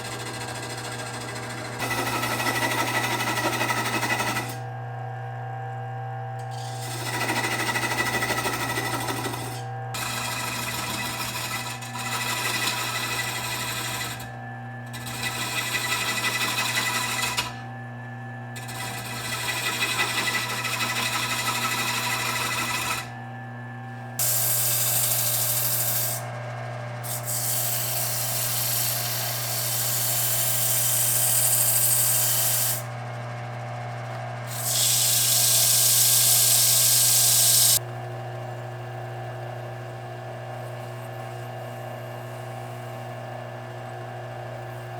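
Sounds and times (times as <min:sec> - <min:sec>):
turning tool cutting wood: 0:00.0 - 0:04.7, 0:06.4 - 0:17.7, 0:18.5 - 0:23.3, 0:24.0 - 0:33.3, 0:34.2 - 0:37.8, 0:40.4 - 0:44.9
wood lathe motor hum: 0:00.0 - 0:44.9.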